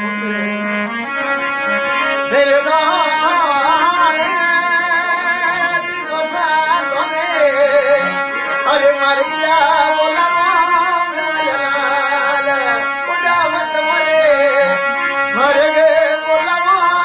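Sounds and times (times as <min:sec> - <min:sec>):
held drone notes: 0:00.0 - 0:17.0
ornamented folk melody: 0:00.0 - 0:17.0.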